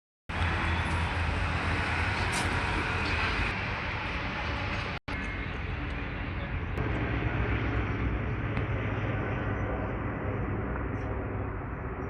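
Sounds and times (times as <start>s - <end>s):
moving vehicle rumble and road noise: 0.3s - 12.0s.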